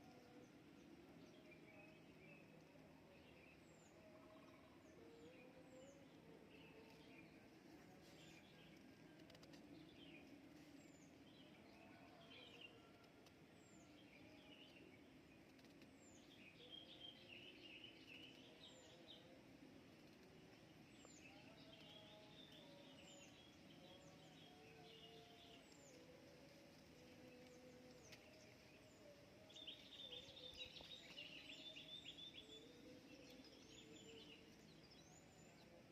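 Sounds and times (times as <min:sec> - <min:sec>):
birds chirping and trilling: 0:00.0 - 0:35.9.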